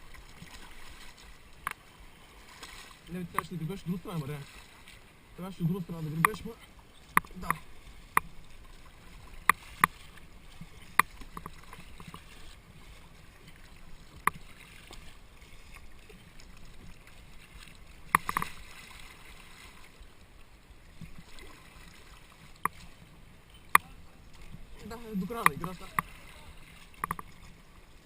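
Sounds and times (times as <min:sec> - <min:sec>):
paddle splashing in water: 0:00.0 - 0:05.2, 0:05.8 - 0:28.0.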